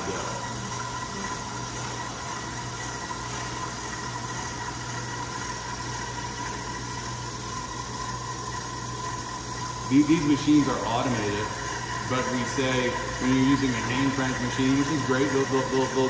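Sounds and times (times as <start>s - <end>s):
stand mixer motor humming: 0.0s - 16.0s.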